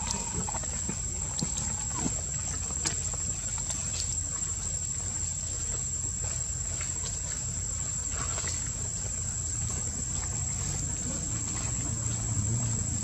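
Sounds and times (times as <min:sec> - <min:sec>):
low rumbling background: 0:00.0 - 0:13.0.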